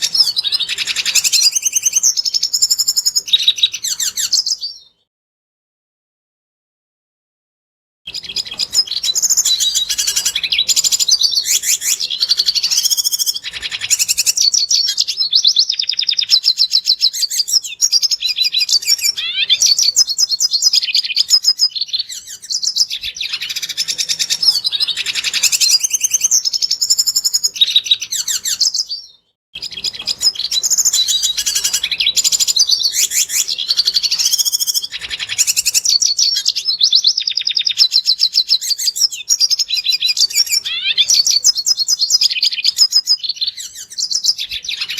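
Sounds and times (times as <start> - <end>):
bird twittering song: 0.0 - 5.1, 8.1 - 44.9.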